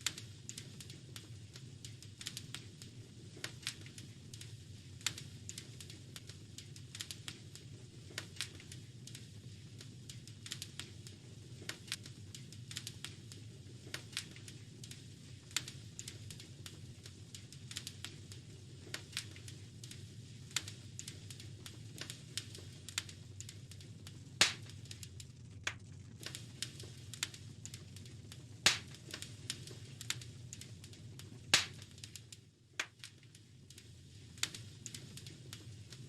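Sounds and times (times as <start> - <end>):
sharp snaps and pops: 0.0 - 36.0
wood fire crackling: 0.0 - 36.0.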